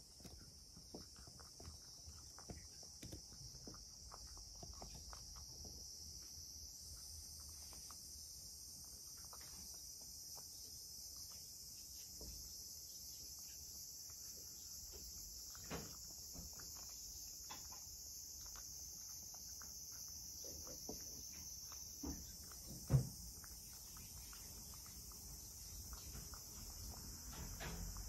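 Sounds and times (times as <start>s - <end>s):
cat crunching carrot: 0.0s - 28.0s.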